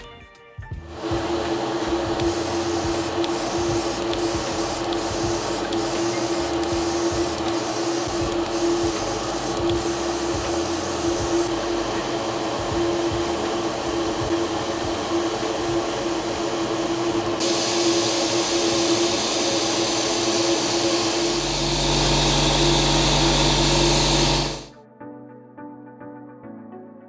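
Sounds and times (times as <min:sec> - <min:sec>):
music: 0:00.0 - 0:27.0
motor or blower humming: 0:00.8 - 0:24.7.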